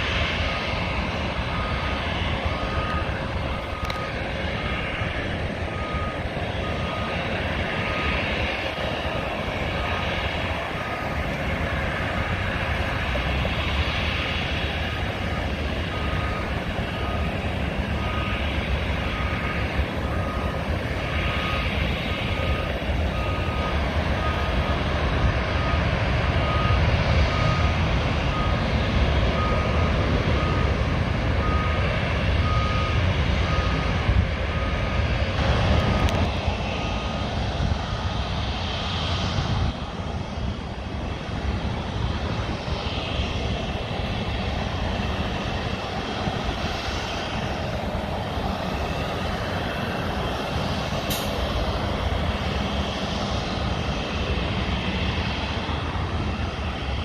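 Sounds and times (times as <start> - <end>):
aircraft engines: 0.0 - 57.0
low rumble of traffic: 0.0 - 57.0
vehicle reversing alarm beeping: 0.1 - 39.6, 41.5 - 53.5, 54.4 - 57.0.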